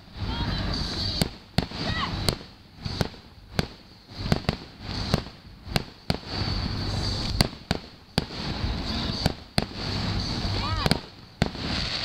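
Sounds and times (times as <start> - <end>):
fireworks crackling: 0.0 - 12.0
fireworks shells bursting: 0.0 - 12.0.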